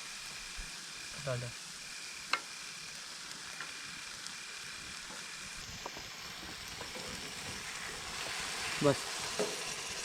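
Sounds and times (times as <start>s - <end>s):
masala sizzling in a pan: 0.0s - 10.0s.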